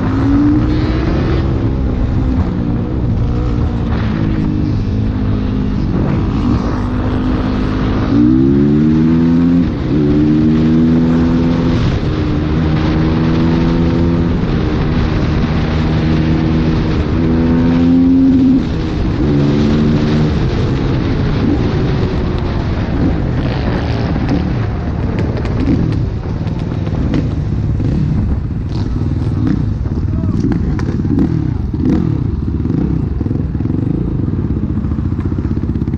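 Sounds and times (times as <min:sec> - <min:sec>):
motorcycle engine accelerating: 0:00.0 - 0:35.9
wind noise: 0:00.0 - 0:35.9.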